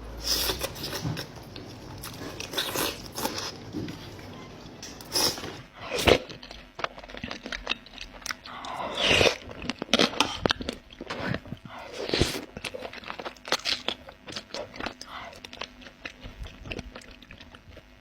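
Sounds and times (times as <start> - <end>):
person chewing food: 0.1 - 18.0.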